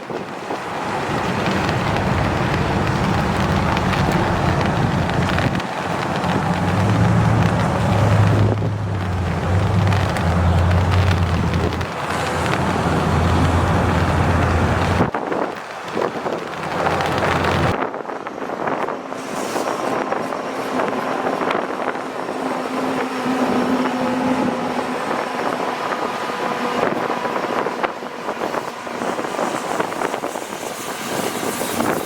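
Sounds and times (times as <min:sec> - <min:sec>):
freight train rumbling past: 0:00.0 - 0:32.0
rail clicks: 0:00.0 - 0:32.0
wind on microphone: 0:00.0 - 0:32.0.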